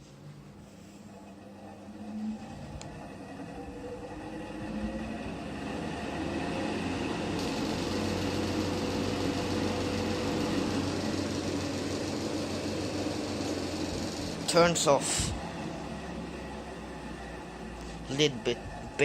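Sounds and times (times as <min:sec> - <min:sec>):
box fan whirring: 0:00.0 - 0:19.0
fan bearing noise: 0:00.0 - 0:19.0.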